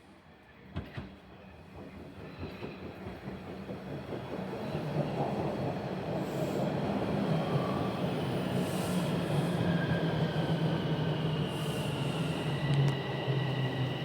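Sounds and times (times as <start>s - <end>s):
train wheels on track: 0.5s - 14.0s.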